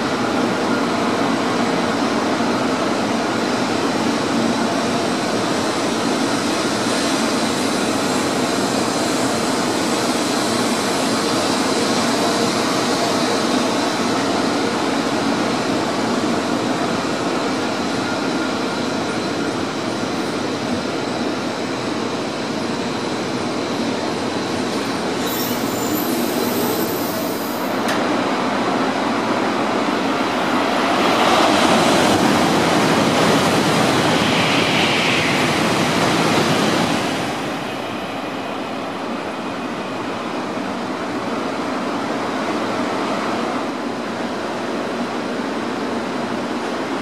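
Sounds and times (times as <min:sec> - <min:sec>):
rush of air and rail noise: 0:00.0 - 0:47.0
standing train humming: 0:00.0 - 0:47.0
train rushing through station: 0:00.0 - 0:47.0.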